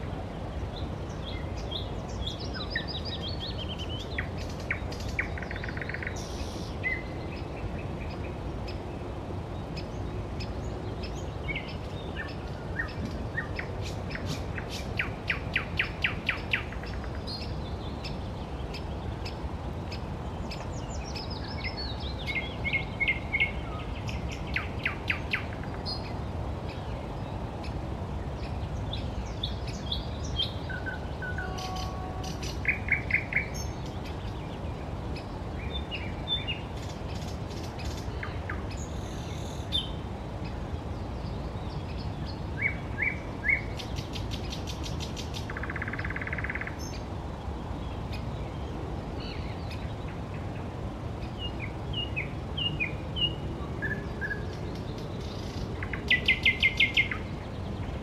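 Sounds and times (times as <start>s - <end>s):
low background noise: 0.0s - 58.0s
songbirds singing: 0.0s - 58.0s.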